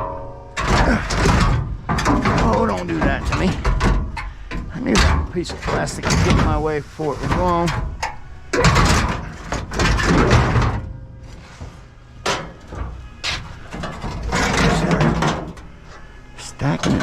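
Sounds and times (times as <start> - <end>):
scrap metal scraping and knocking: 0.0 - 16.1.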